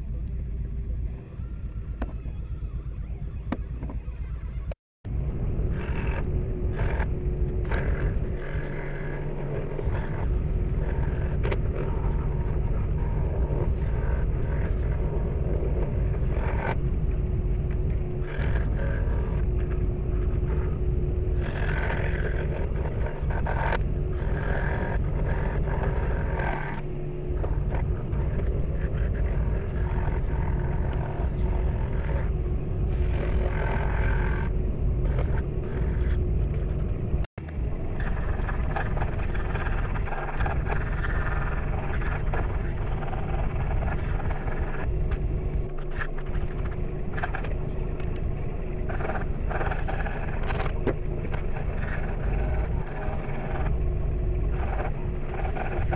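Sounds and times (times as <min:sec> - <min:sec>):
scroll saw cutting wood: 0:05.5 - 0:37.2, 0:37.8 - 0:55.9.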